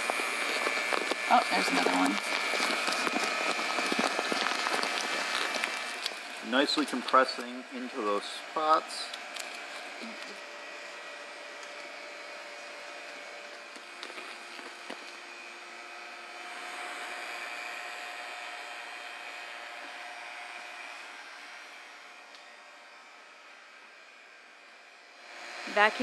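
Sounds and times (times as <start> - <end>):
vacuum pump hissing: 0.0 - 23.4, 25.2 - 26.0.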